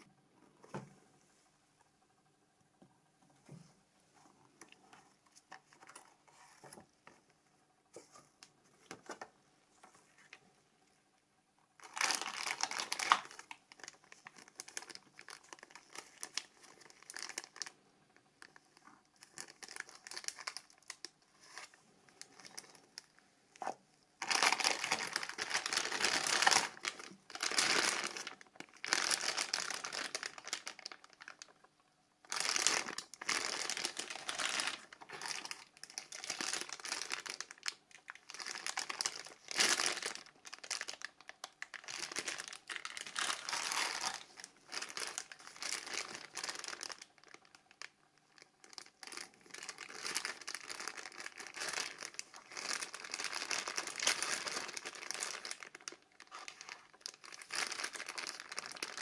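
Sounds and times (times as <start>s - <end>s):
plastic bags crinkling: 4.4s - 7.2s, 11.8s - 59.0s.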